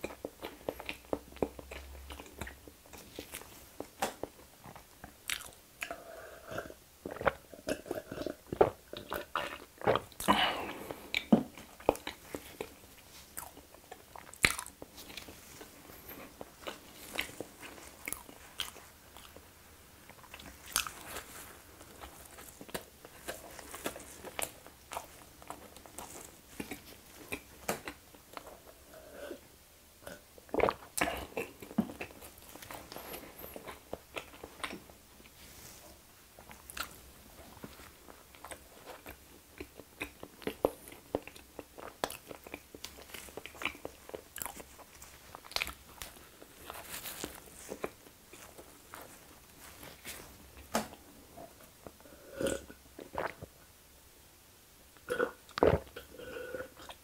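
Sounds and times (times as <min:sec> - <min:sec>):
person chewing bread: 0:00.0 - 0:29.4, 0:30.0 - 0:35.4, 0:36.4 - 0:53.5, 0:55.0 - 0:57.0.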